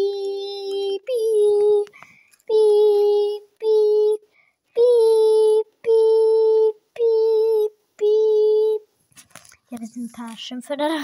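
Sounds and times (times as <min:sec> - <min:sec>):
girl singing held notes: 0:00.0 - 0:08.9.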